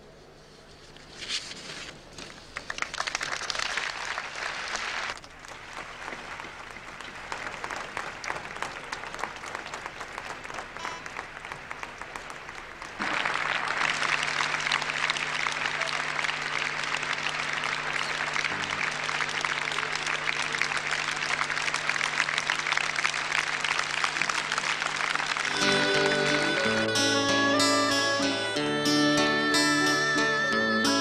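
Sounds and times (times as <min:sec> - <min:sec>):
crowd applauding: 0:02.5 - 0:30.7.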